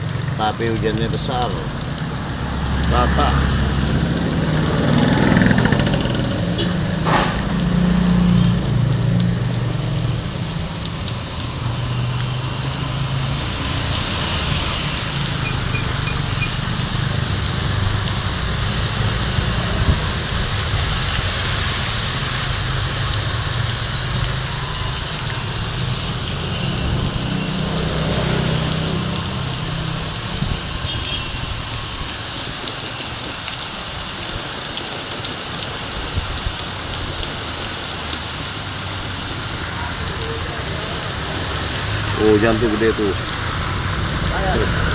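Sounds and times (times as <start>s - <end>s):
vehicle engines running: 0.0s - 33.8s, 36.5s - 44.9s
heavy rain pouring: 0.0s - 44.9s.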